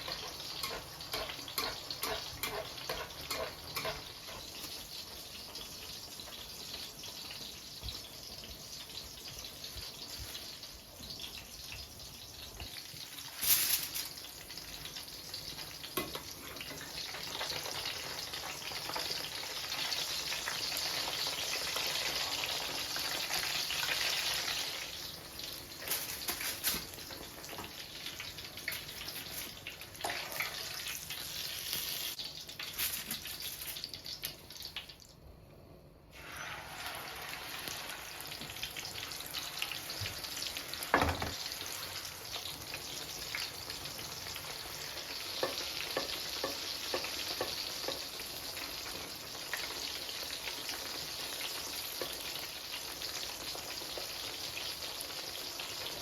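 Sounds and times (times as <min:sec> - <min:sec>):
hiss of food frying: 0:00.0 - 0:34.9, 0:36.1 - 0:56.0.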